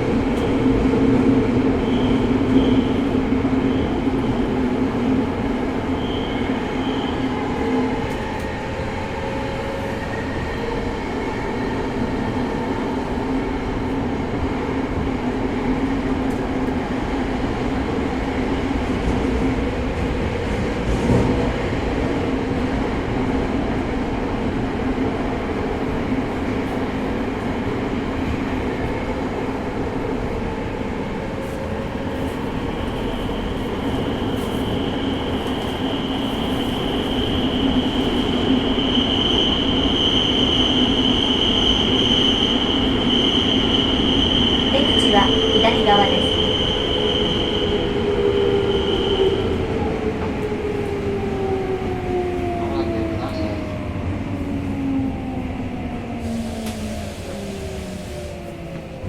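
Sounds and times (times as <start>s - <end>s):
subway train wheel and rail noise: 0.0s - 59.0s.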